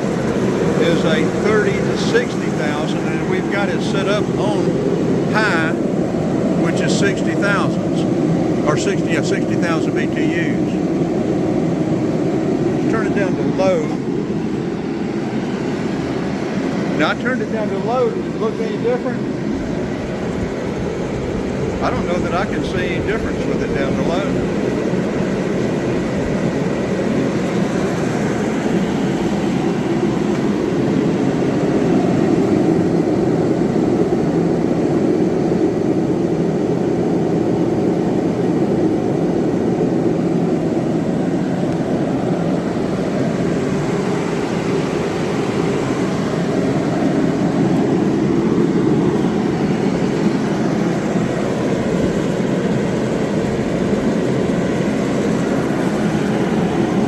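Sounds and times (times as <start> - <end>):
heater fan and burner rushing: 0.0 - 57.0.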